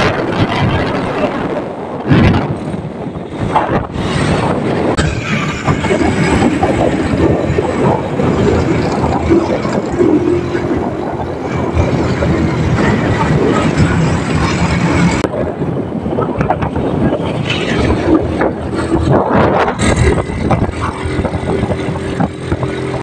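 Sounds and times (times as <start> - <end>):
wind noise on microphone: 0.0 - 23.0
scooter engine running: 2.6 - 15.3, 16.3 - 23.0.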